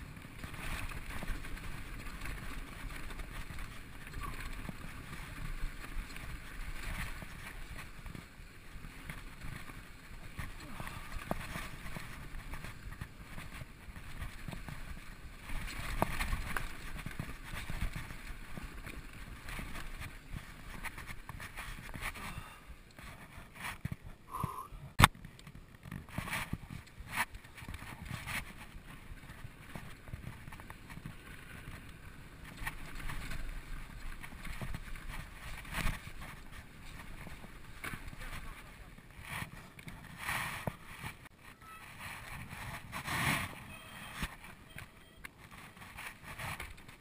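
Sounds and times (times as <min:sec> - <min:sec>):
bike rattling: 0:00.0 - 0:47.0.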